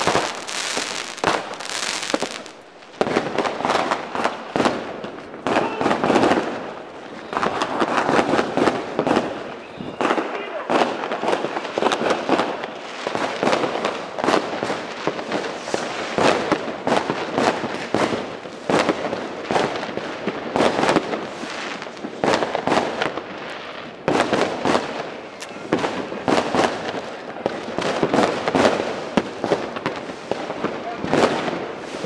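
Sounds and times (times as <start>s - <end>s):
fireworks and firecrackers banging: 0.0s - 32.0s.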